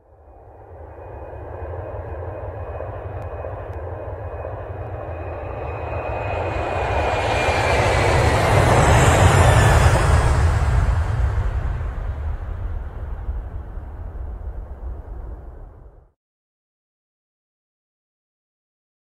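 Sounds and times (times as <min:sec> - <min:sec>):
jet airliner engines passing: 0:00.0 - 0:16.0.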